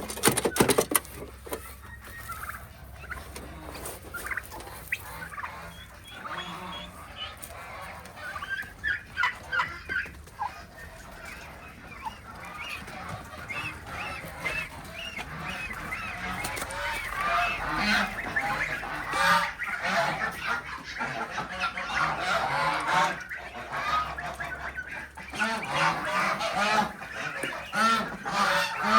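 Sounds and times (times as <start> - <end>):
poultry flock calling: 0.0 - 28.9.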